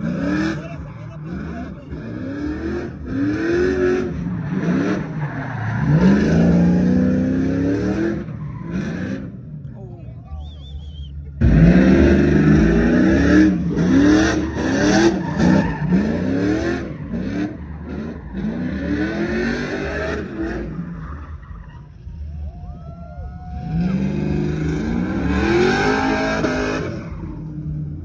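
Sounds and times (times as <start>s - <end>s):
truck engine revving hard: 0.0s - 9.6s, 11.1s - 22.3s, 23.5s - 28.0s.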